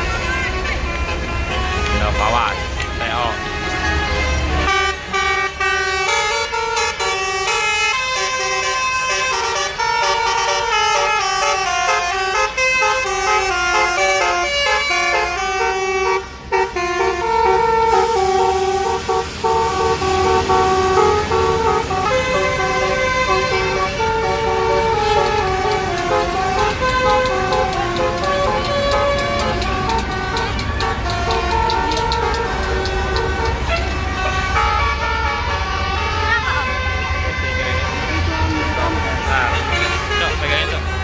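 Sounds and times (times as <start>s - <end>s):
bus horn playing a melody: 0.0s - 41.0s.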